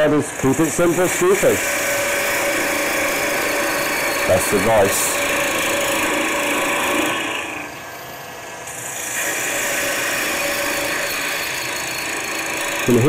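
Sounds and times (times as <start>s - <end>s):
gouge cutting wood on lathe: 0.0s - 7.7s, 8.8s - 13.0s.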